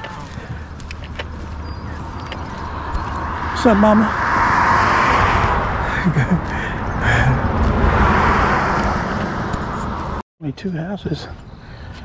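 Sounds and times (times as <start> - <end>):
cars passing: 0.0 - 10.2.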